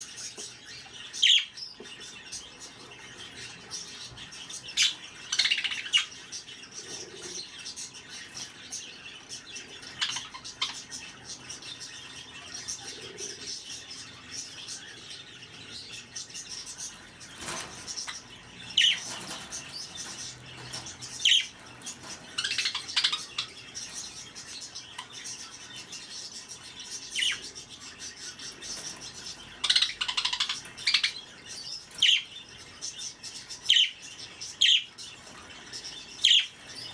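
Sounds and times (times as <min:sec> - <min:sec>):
budgerigars twittering: 0:00.0 - 0:36.9.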